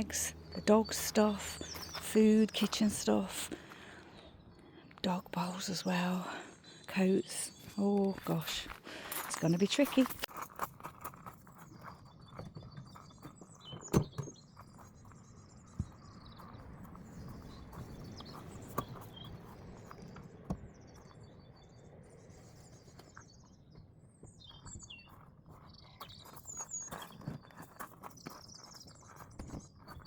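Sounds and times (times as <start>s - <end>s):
birds chirping and singing: 0.0s - 10.2s, 11.5s - 30.0s.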